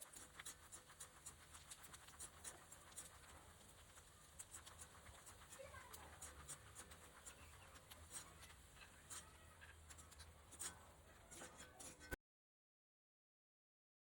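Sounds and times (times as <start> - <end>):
okra frying in oil: 0.0 - 12.2.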